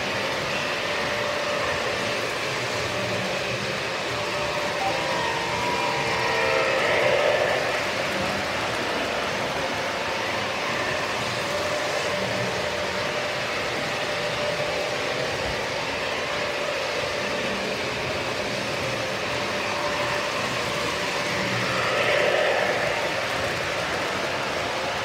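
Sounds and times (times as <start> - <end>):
model train wheels rumbling on rail: 0.0 - 25.0.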